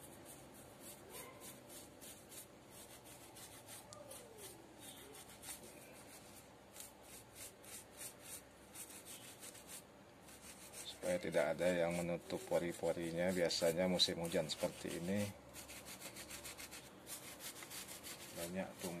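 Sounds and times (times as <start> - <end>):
toothbrush scrubbing bark: 0.8 - 19.0.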